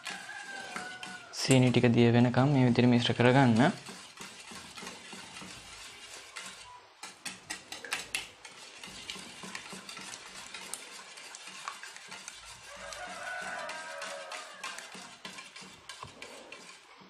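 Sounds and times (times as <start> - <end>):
whisk beating in metal bowl: 0.0 - 17.0.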